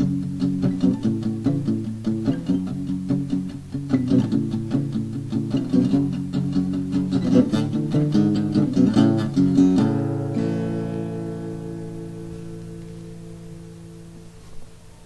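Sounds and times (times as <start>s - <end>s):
guitar chord ringing: 0.0s - 15.0s
picked electric guitar notes: 0.0s - 15.0s.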